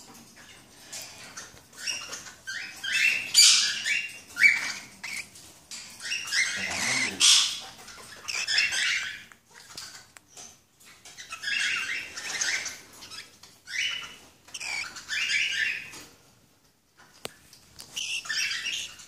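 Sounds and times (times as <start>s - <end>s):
cockatiels chirping and calling: 0.1s - 16.1s, 17.8s - 19.0s.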